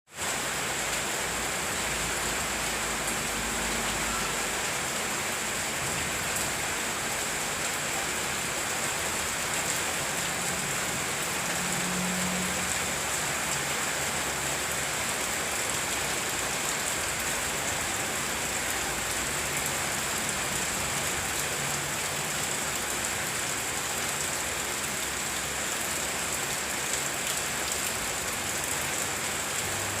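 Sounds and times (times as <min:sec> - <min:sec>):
heavy rain: 0:00.1 - 0:30.0.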